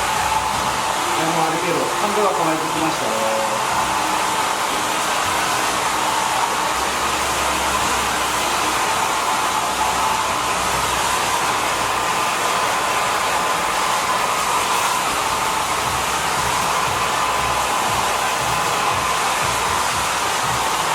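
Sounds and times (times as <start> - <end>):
hair dryer running: 0.0 - 20.9.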